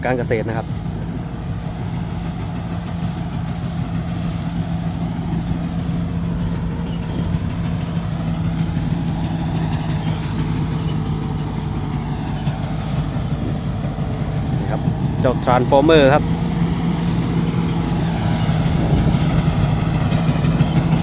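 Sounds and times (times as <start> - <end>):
combine harvester engine running: 0.0 - 21.0.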